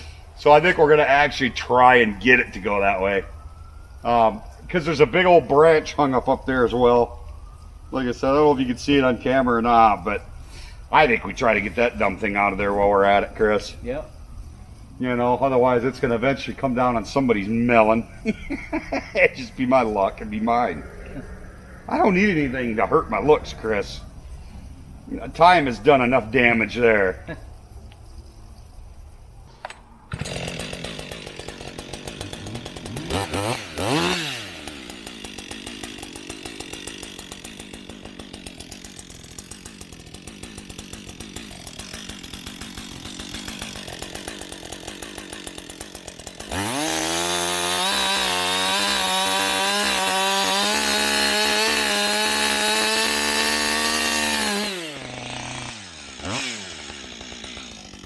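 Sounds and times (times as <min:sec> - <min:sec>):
chainsaw idling and revving: 0:00.0 - 0:14.4, 0:15.0 - 0:24.0, 0:29.6 - 0:58.0.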